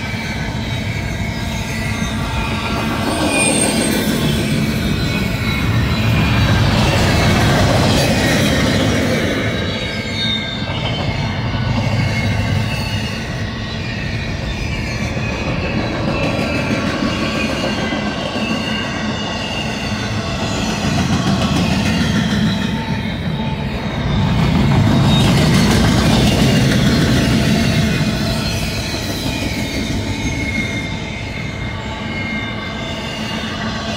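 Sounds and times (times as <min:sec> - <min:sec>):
train wheels rumbling on rails: 0:00.0 - 0:33.9
wheel flanges squealing: 0:00.0 - 0:33.9.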